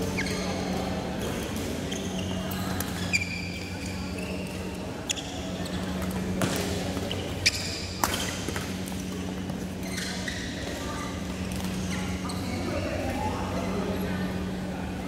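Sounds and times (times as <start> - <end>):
shoes squeaking on court floor: 0.0 - 13.0
steady low hum: 0.0 - 15.0.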